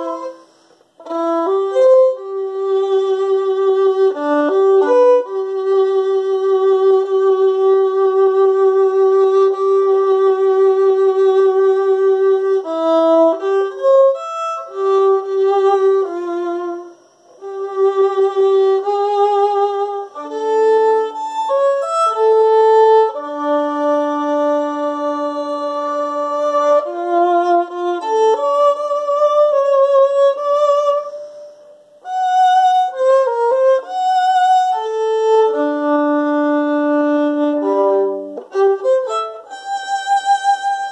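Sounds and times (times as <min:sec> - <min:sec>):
solo violin playing: 0:00.0 - 0:40.9.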